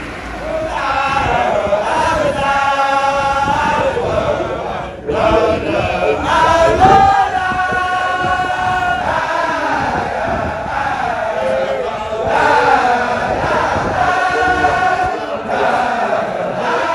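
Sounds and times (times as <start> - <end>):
men chanting in unison: 0.2 - 16.9.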